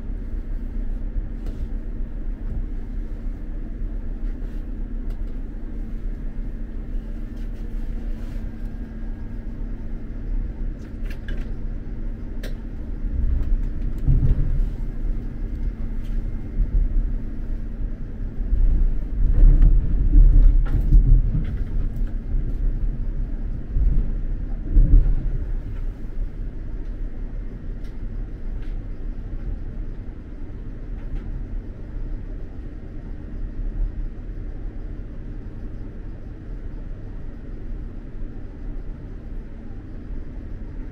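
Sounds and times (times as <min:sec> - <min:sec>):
train rumble inside carriage: 0:00.0 - 0:40.9.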